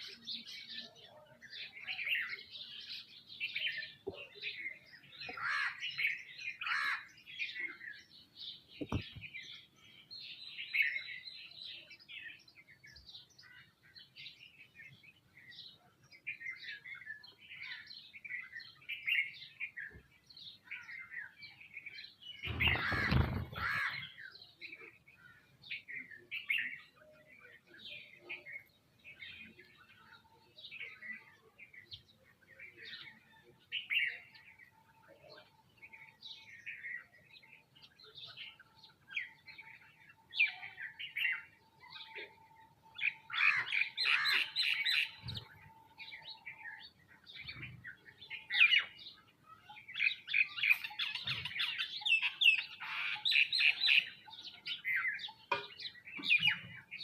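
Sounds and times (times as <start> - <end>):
flock of small birds chirping: 0.0 - 57.0.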